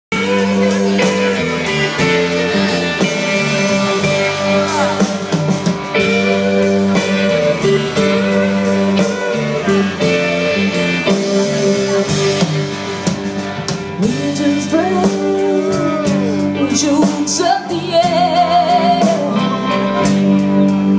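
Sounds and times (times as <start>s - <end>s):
drums: 0.1s - 20.9s
electric guitars: 0.1s - 20.9s.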